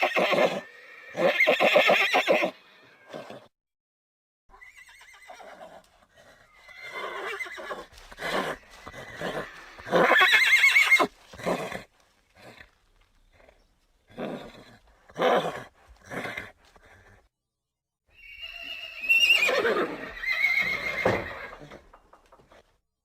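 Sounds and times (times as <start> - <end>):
horse whinnying: 0.0 - 3.5, 4.5 - 12.7, 14.1 - 17.2, 18.1 - 22.6.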